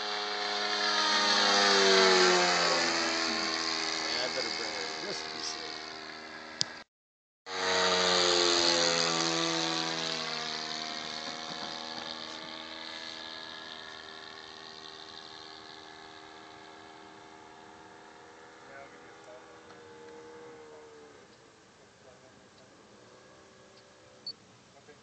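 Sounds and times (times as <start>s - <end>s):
model plane flying past: 0.0s - 6.8s, 7.5s - 24.4s.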